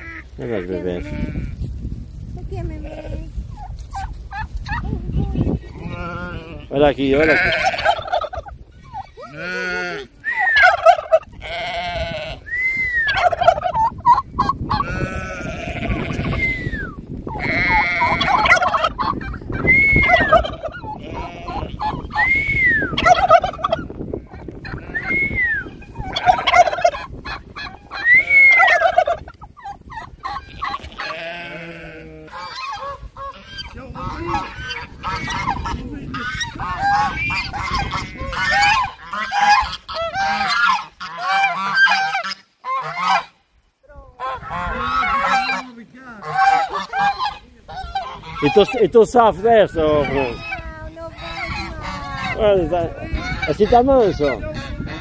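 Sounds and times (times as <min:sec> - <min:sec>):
geese honking: 0:00.0 - 0:01.5, 0:03.0 - 0:43.4, 0:44.2 - 0:55.0
turkeys gobbling: 0:03.5 - 0:05.5, 0:07.2 - 0:11.4, 0:12.7 - 0:43.4, 0:44.2 - 0:55.0.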